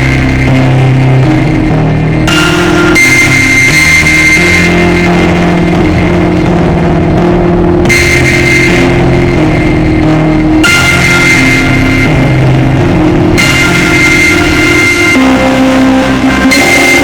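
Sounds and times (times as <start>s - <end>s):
loud rock music with electric guitar: 0.0s - 17.0s.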